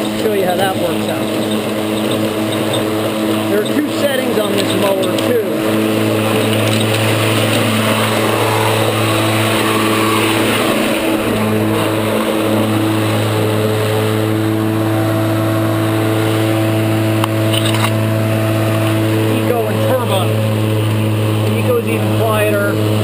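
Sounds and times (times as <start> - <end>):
electric lawn mower cutting grass: 0.0 - 23.0.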